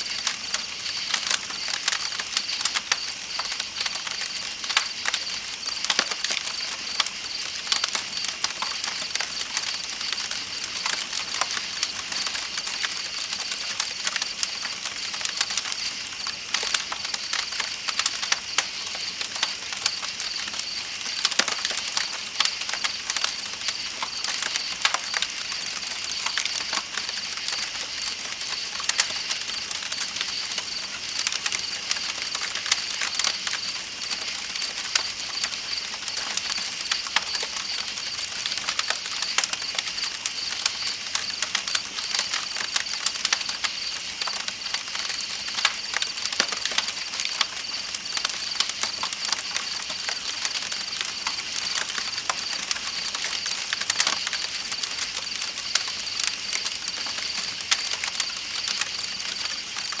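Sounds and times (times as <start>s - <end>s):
campfire crackling and popping: 0.0s - 60.0s
night insects chirping: 0.0s - 60.0s.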